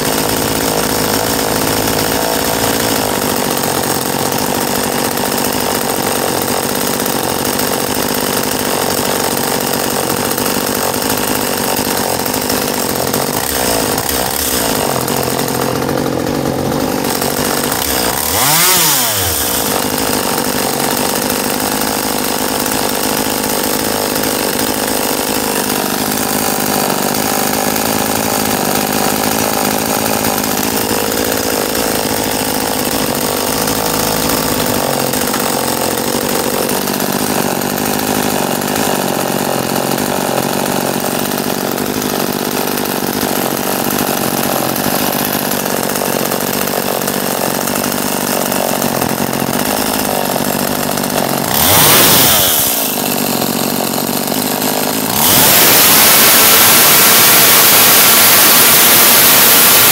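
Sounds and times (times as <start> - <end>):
chainsaw idling: 0.0 - 59.9.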